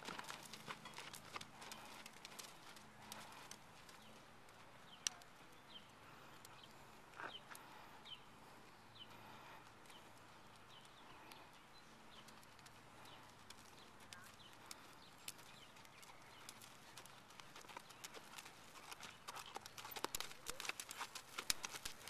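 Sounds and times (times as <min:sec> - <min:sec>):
horse hooves trotting on sand: 0:00.0 - 0:22.0.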